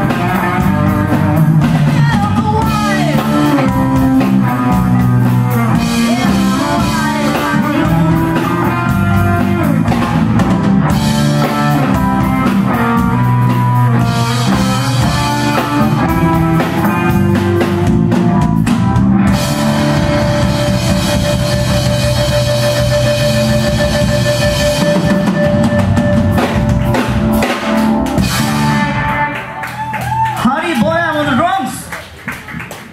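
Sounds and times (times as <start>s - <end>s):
live rock band playing: 0.0s - 32.6s.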